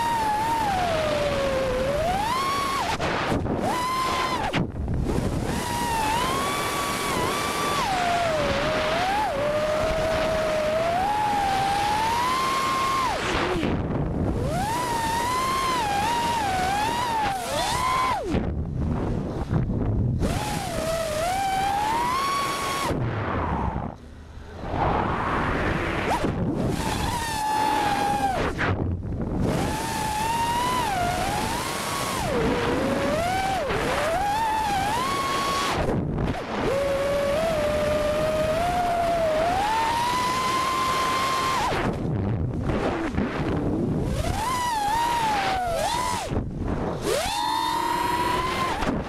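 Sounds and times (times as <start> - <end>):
drone motors whining: 0.0 - 49.0
wind rushing on microphone: 0.0 - 49.0.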